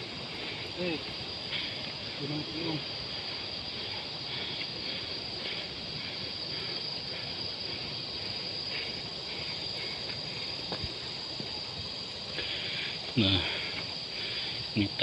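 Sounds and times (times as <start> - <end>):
crickets trilling: 0.0 - 15.0
steady hiss: 0.0 - 15.0.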